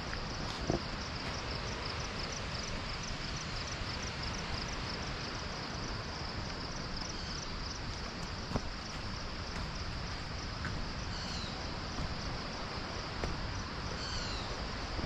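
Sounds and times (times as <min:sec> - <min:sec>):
insect chirping: 0:00.0 - 0:15.0
rushing background noise: 0:00.0 - 0:15.0.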